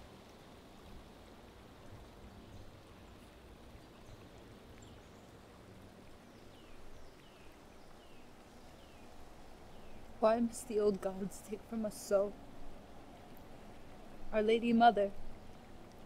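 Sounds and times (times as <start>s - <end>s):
low hiss and rumble: 0.0s - 16.0s.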